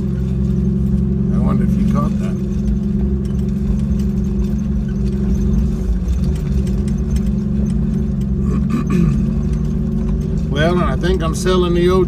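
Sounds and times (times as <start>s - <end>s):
car engine driving: 0.0s - 12.0s
jangling rattles in cab: 0.0s - 12.0s.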